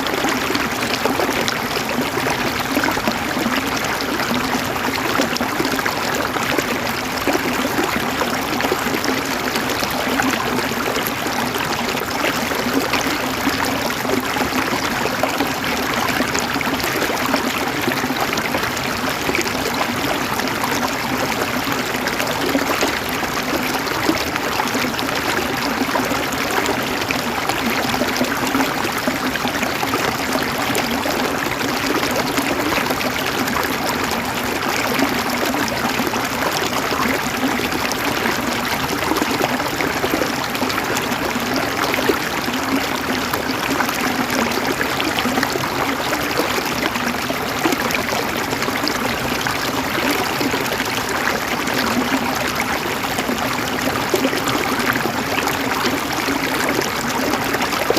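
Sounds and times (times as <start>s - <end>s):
river flowing over rocks: 0.0s - 57.9s.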